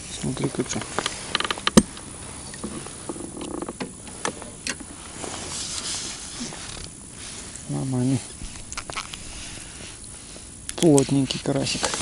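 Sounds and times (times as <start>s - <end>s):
light rustling: 0.1s - 12.0s.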